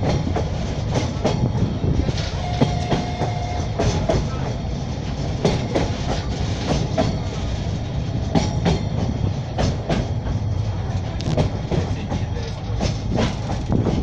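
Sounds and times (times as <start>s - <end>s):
train rumbling: 0.0s - 14.0s
wheels clicking over rail joints: 0.0s - 14.0s.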